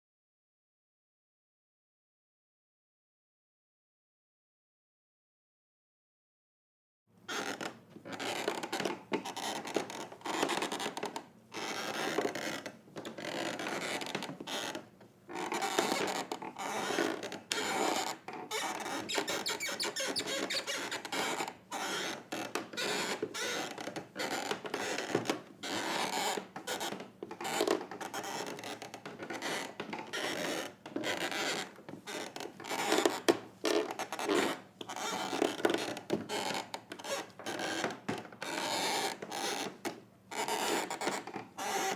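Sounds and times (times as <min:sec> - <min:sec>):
wooden floor creaking: 0:07.3 - 0:41.9.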